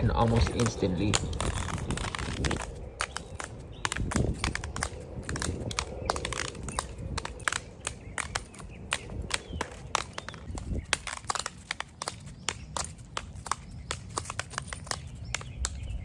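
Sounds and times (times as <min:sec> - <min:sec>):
skip toy clicking and knocking: 0:00.0 - 0:16.0.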